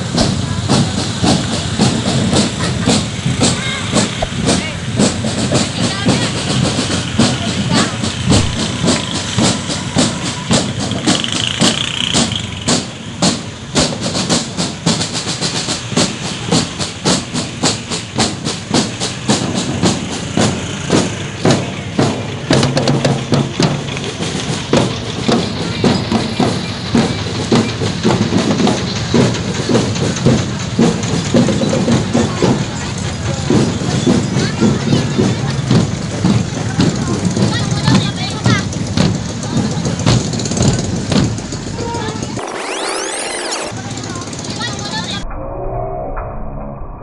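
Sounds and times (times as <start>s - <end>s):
drums beating march rhythm: 0.0s - 45.2s
vehicle engines passing: 0.0s - 45.2s.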